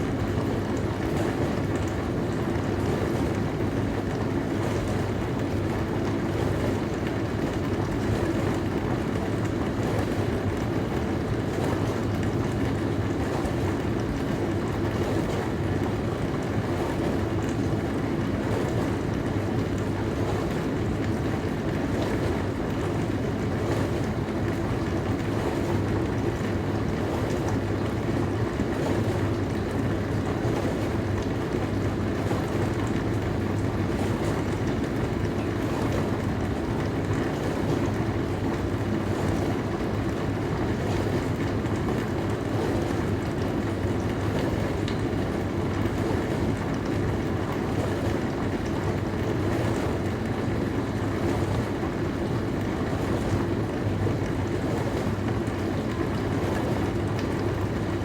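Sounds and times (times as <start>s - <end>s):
dishwasher motor hum: 0.0s - 58.0s.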